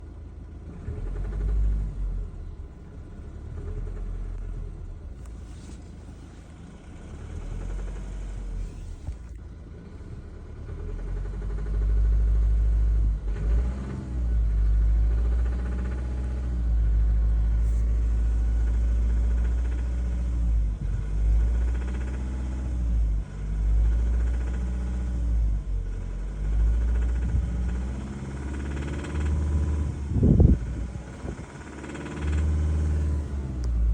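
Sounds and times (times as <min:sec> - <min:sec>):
car engine revving: 0:00.6 - 0:33.9
rattle in car: 0:00.8 - 0:02.0, 0:02.6 - 0:33.9.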